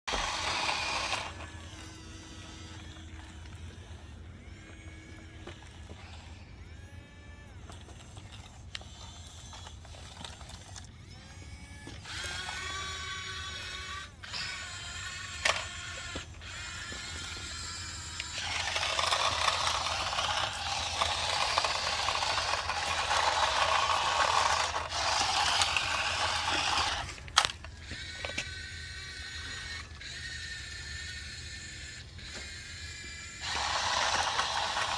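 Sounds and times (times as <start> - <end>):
small motor whirring and clicking: 0.1 - 34.9
steady low hum: 0.1 - 34.9.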